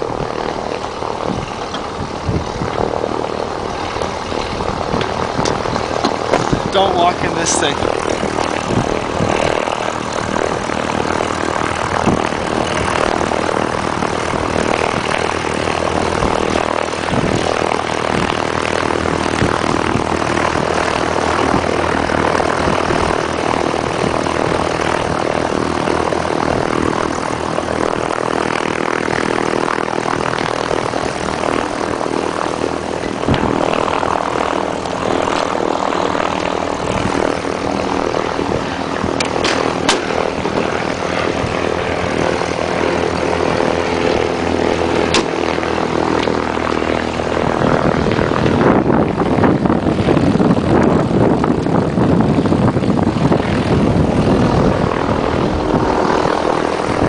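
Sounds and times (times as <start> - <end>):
propeller aircraft engine drone: 0.0 - 57.0.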